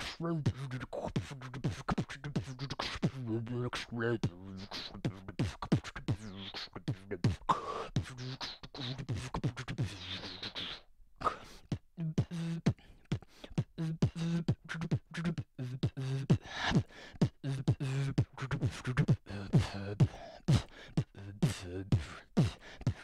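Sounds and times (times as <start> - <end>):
beatboxing: 0.0 - 23.0.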